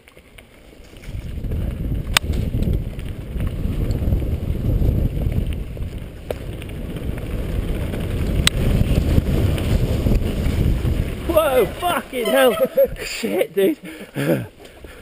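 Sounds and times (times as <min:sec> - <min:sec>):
mountain bike rumbling: 0:00.0 - 0:15.0
wind buffeting microphone: 0:00.8 - 0:13.2.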